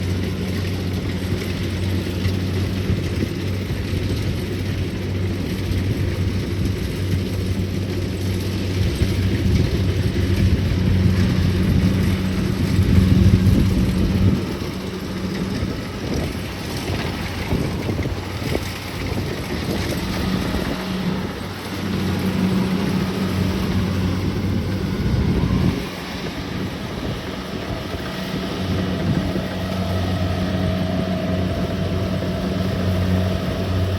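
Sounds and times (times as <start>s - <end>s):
combine harvester engine hum: 0.0s - 33.9s
threshing and cutting noise: 0.0s - 33.9s
wind on microphone: 2.4s - 33.9s.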